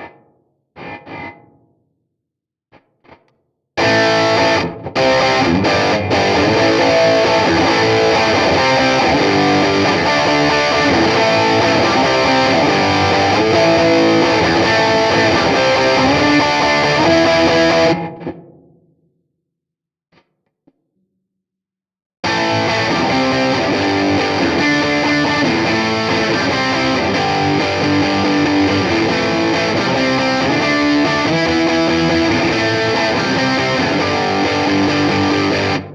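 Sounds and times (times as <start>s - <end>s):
distorted electric guitar: 0.0s - 1.8s, 2.7s - 18.8s, 22.2s - 35.9s.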